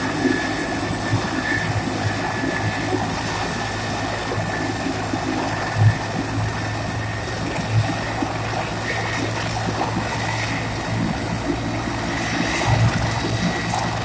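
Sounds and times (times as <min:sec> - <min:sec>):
helicopter rotor drone: 0:00.0 - 0:14.0
helicopter turbine whine: 0:00.0 - 0:14.0.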